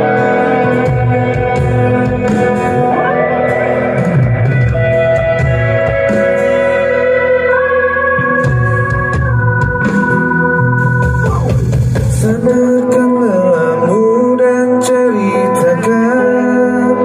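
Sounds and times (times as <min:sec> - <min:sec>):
organ-like keyboard chords: 0:00.0 - 0:17.0
steady bass notes: 0:00.0 - 0:17.0.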